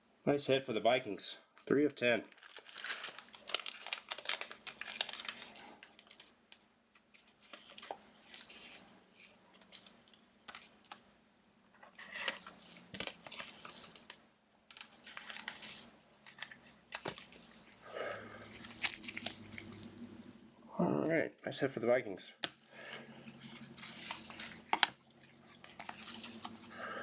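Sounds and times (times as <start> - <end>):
cards and packaging rustling: 2.2 - 11.0, 11.8 - 20.3, 22.4 - 27.0.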